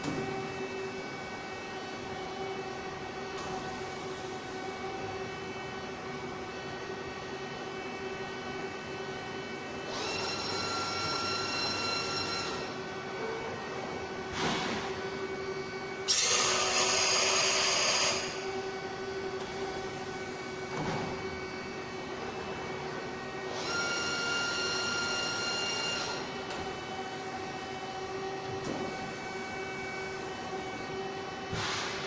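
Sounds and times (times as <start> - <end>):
high machine whine: 0.0 - 32.0.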